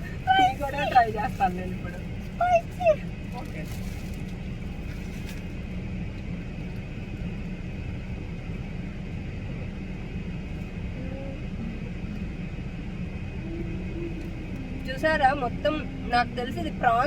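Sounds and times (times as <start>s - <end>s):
car cabin low rumble: 0.0s - 17.0s.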